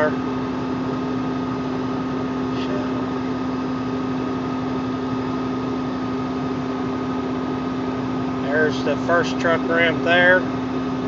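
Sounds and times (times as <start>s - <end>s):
truck engine droning: 0.0s - 10.8s.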